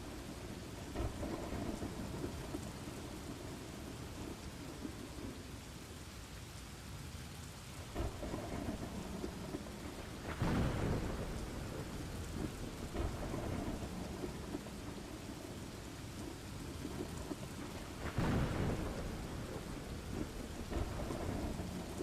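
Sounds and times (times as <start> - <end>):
thunder rumbling: 0.0 - 5.6, 7.9 - 22.0
steady rain: 0.0 - 22.0.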